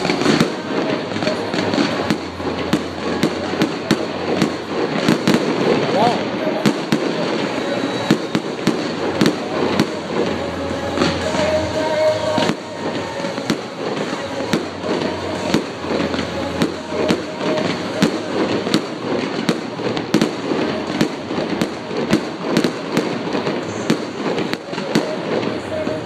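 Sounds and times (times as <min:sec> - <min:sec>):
fireworks bangs and cracks: 0:00.0 - 0:26.0.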